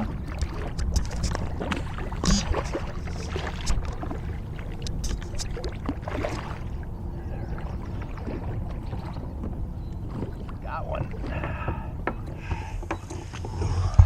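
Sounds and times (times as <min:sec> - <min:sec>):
water washing against kayak hull: 0:00.0 - 0:12.7.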